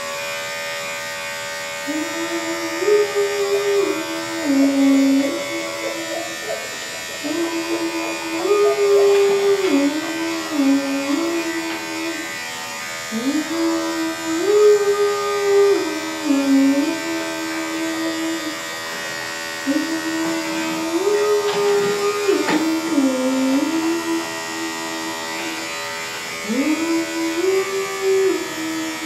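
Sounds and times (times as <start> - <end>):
electric clippers buzzing: 0.0 - 29.0.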